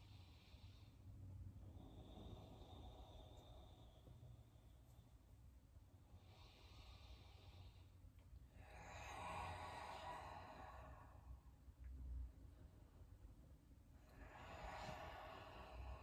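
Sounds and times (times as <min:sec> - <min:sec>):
person breathing deeply: 0:00.0 - 0:11.8, 0:13.9 - 0:16.0.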